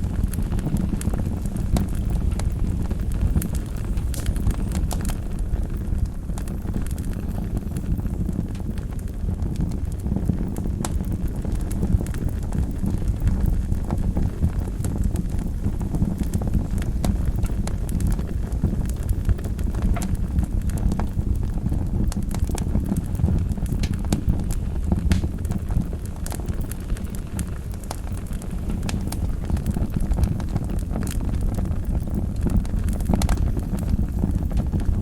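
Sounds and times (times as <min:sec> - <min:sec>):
burning logs crackling and popping: 0:00.0 - 0:35.0
wood fire rumbling: 0:00.0 - 0:35.0.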